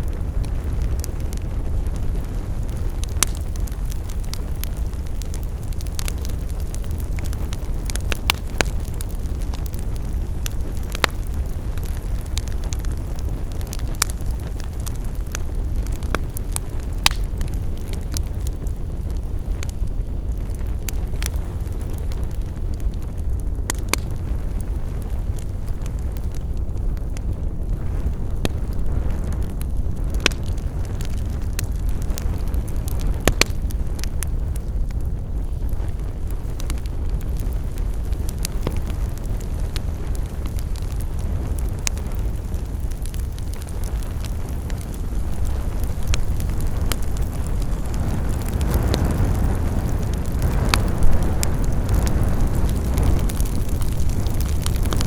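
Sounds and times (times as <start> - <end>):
campfire wood crackling and popping: 0.0 - 55.0
low fire rumble: 0.0 - 55.0.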